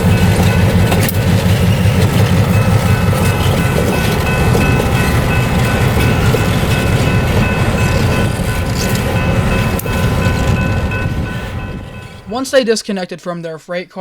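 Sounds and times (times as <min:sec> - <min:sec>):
steady high ringing tones: 0:00.0 - 0:12.6
diesel locomotive rumbling: 0:00.0 - 0:12.8.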